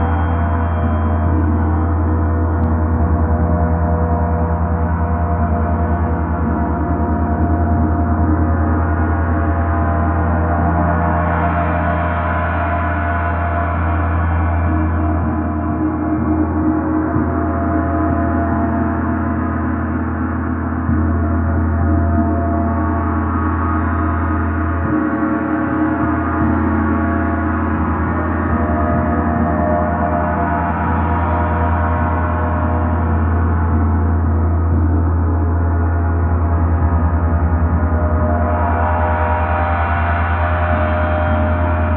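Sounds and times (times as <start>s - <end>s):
gong humming with overtones: 0.0s - 41.9s.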